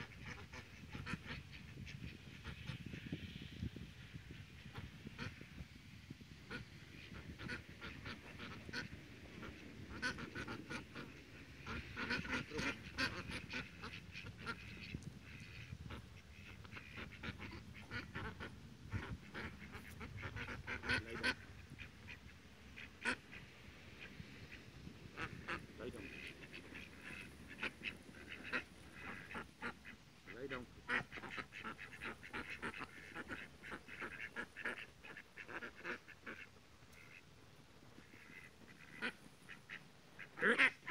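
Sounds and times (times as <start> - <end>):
ducks quacking: 0.0 - 5.7, 6.4 - 40.9.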